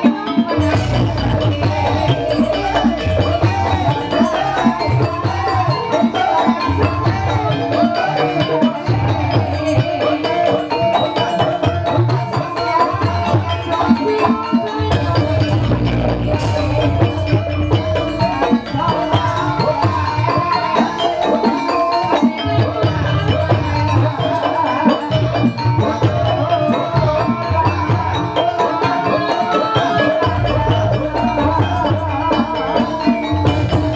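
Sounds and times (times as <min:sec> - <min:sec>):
drum beats: 0:00.0 - 0:33.9
struck mallet instruments: 0:00.0 - 0:33.9.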